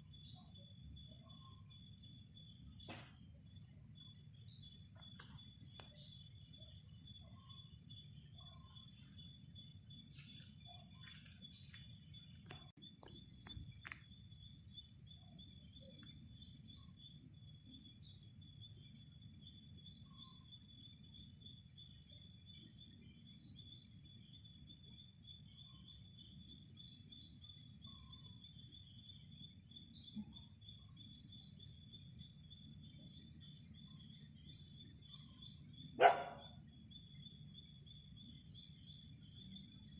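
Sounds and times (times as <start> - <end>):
crickets trilling: 0.0 - 39.9
insect chirp: 0.0 - 39.9.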